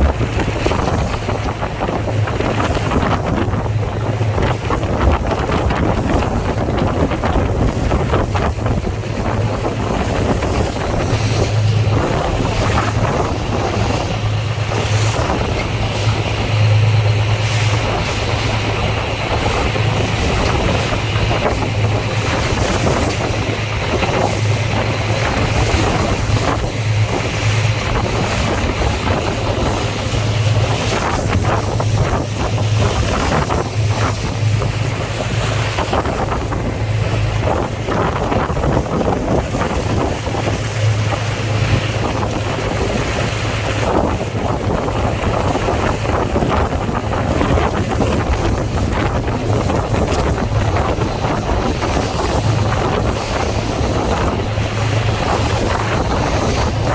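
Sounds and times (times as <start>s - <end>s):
boat engine drone: 0.0s - 56.9s
water rushing past: 0.0s - 56.9s
wind buffeting microphone: 0.0s - 56.9s.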